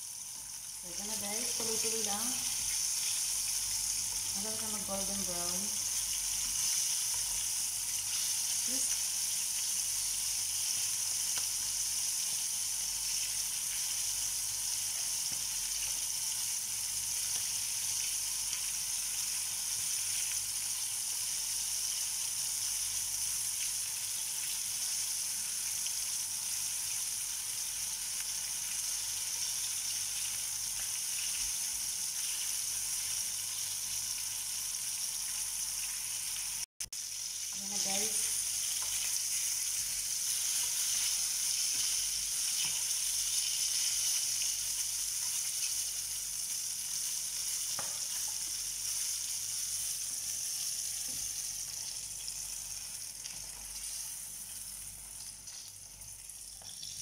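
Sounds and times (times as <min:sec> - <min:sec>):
chicken frying in oil: 0:00.0 - 0:57.0.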